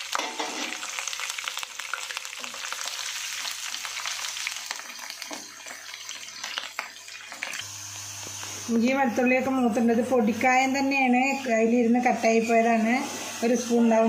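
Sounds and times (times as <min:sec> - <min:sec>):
vegetables sizzling in hot oil: 0:00.0 - 0:09.6, 0:10.4 - 0:14.0.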